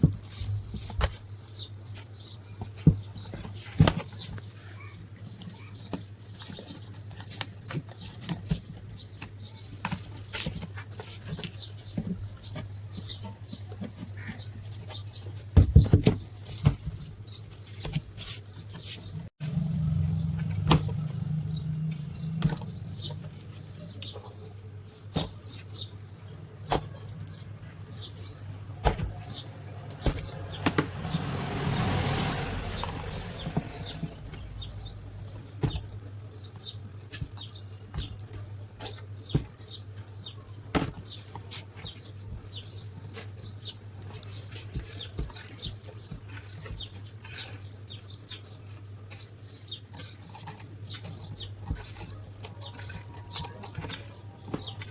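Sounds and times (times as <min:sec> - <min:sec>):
metal parts and tools clinking: 0:00.0 - 0:04.4, 0:05.0 - 0:14.1, 0:20.4 - 0:24.4, 0:25.1 - 0:31.5, 0:32.6 - 0:54.9.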